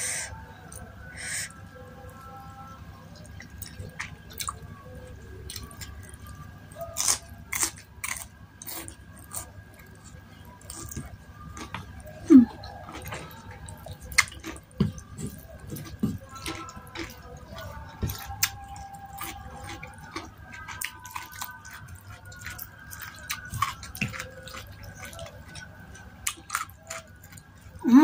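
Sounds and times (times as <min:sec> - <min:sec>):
wet chewing: 0:00.3 - 0:28.0.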